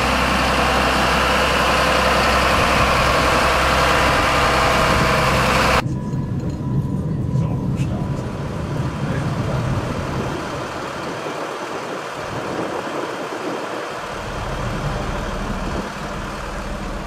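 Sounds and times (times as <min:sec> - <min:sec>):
street and vehicle noise: 0:00.0 - 0:17.0
tram rolling on track: 0:00.0 - 0:17.0.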